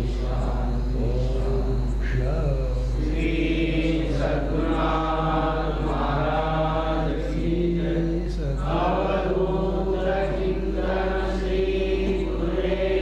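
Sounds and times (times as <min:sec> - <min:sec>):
person chanting: 0:00.0 - 0:13.0
steady low hum: 0:00.0 - 0:13.0.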